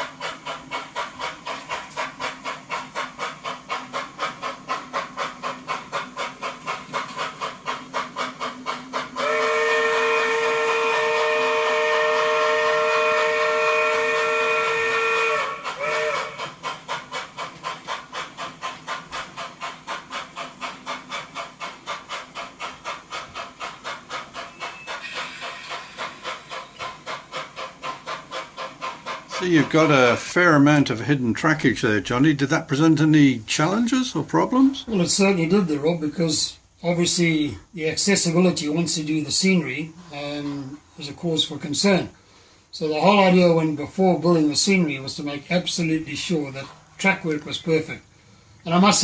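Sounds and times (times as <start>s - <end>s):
model steam locomotive chuffing: 0.0s - 49.0s.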